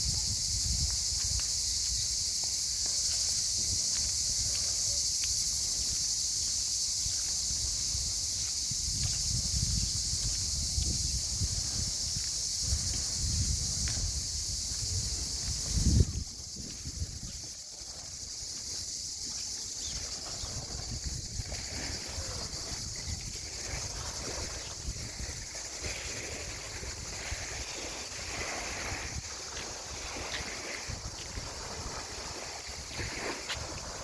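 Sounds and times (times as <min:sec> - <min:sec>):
low wind rumble on microphone: 0:00.0 - 0:02.3, 0:06.9 - 0:18.5, 0:19.8 - 0:34.0
cicadas buzzing: 0:00.0 - 0:34.0.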